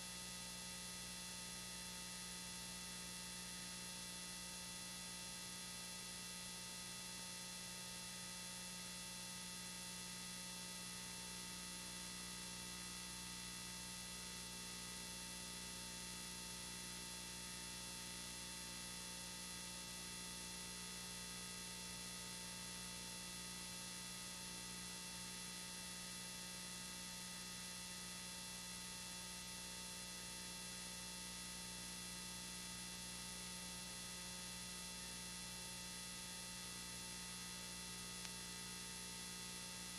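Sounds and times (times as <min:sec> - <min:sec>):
electrical hum and buzz: 0:00.0 - 0:39.9.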